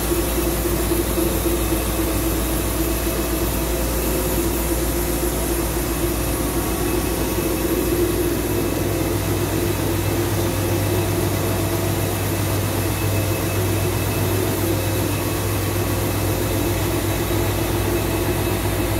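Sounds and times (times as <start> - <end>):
lathe machinery humming: 0.0 - 18.9.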